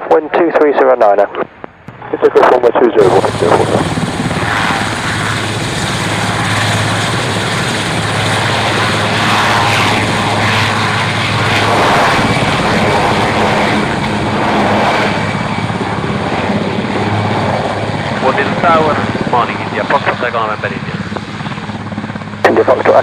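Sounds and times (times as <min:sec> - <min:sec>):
aircraft engine droning: 0:00.0 - 0:23.0.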